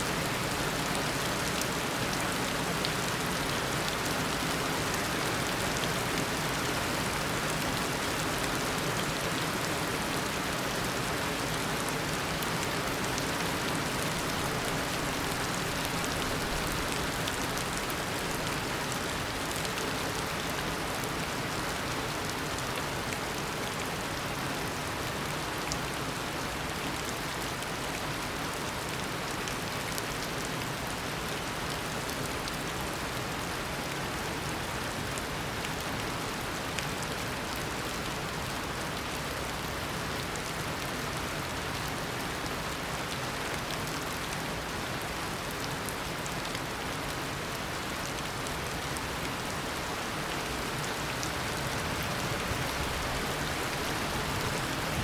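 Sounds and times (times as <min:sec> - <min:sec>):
heavy rain pattering: 0:00.0 - 0:34.1, 0:34.8 - 0:55.0.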